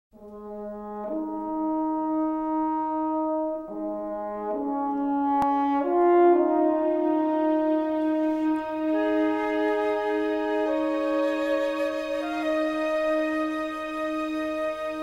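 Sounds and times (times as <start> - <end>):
slow horn-like chords: 0.2 - 15.0.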